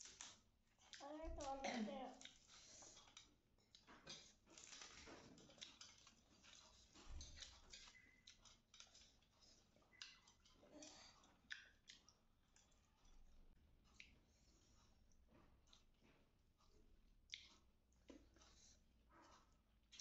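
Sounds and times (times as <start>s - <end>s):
hands mixing rice on metal plates: 0.0s - 20.0s
quiet chewing: 0.0s - 20.0s.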